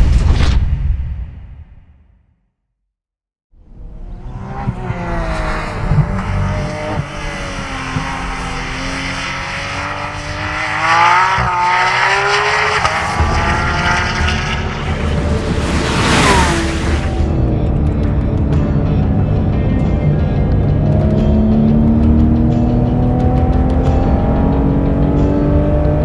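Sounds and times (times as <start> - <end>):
sports car engine revving: 3.8 - 26.0.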